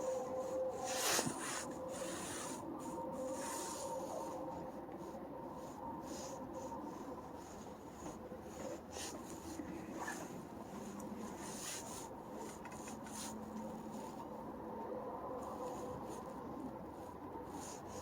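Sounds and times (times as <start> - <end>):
faint rubbing and scratching: 0.0 - 14.4, 15.4 - 18.0.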